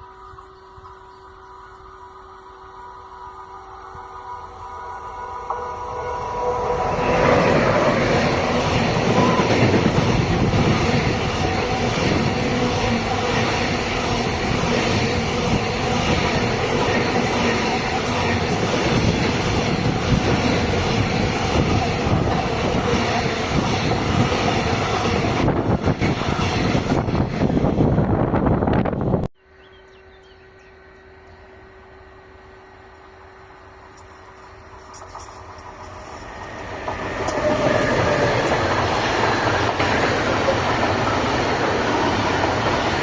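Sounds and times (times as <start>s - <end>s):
train passing close by: 0.0s - 43.0s.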